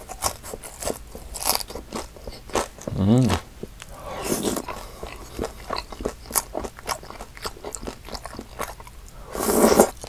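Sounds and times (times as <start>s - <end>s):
crunchy chewing: 0.0s - 10.0s.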